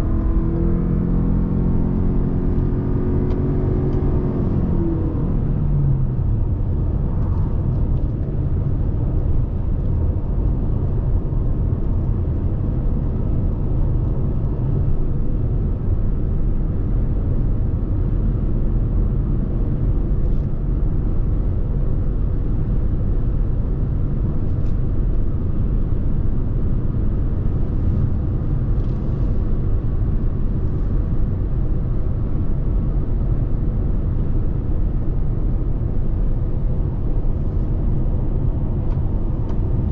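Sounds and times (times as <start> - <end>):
road and wind rumble: 0.0 - 39.9.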